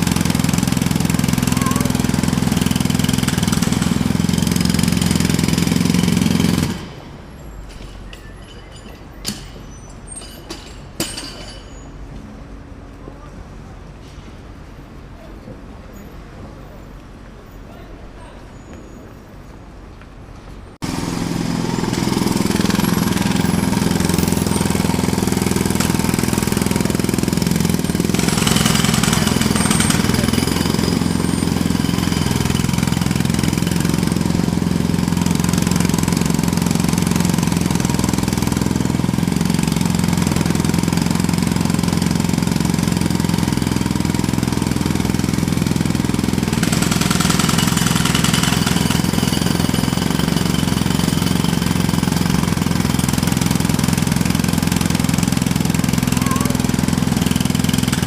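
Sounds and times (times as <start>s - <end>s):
jackhammer hammering: 0.0s - 11.9s, 20.8s - 58.0s.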